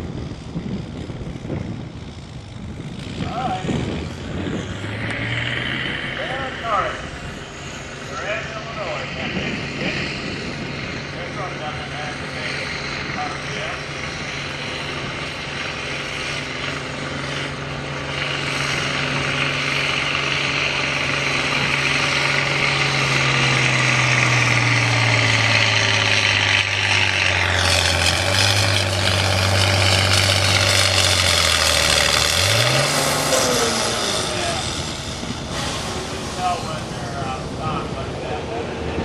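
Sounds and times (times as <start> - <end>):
vehicle engine at full throttle: 0.0 - 39.0.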